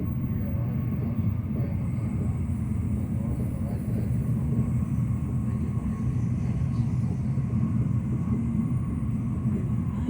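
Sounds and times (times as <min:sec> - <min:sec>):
faint steady whine: 0:00.0 - 0:10.0
train interior low rumble: 0:00.0 - 0:10.0.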